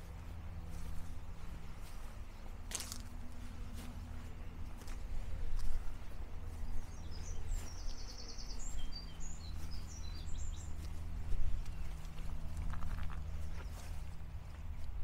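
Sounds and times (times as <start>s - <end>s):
faint footsteps: 0.0s - 15.0s
songbird chirping and trilling: 0.1s - 15.0s.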